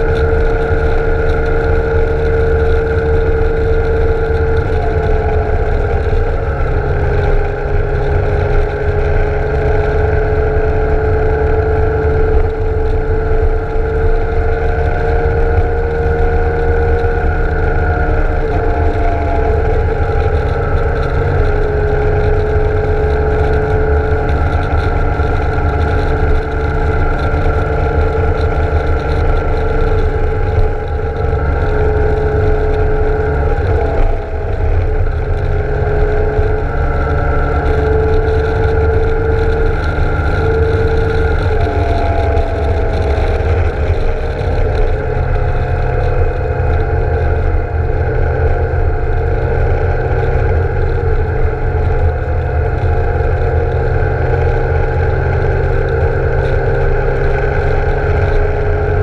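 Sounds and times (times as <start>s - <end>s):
motorcycle engine cruising: 0.0s - 59.0s
wind rumble on camera: 0.0s - 59.0s.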